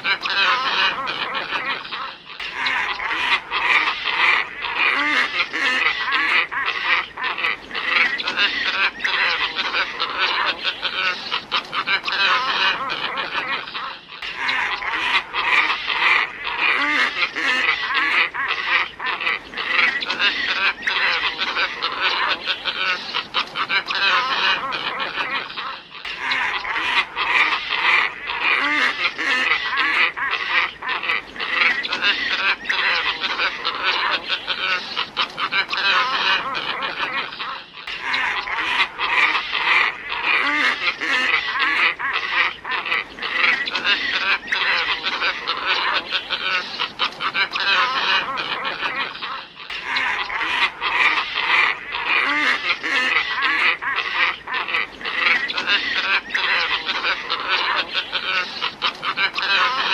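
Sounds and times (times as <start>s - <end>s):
ibis flock calling: 0.0s - 59.9s.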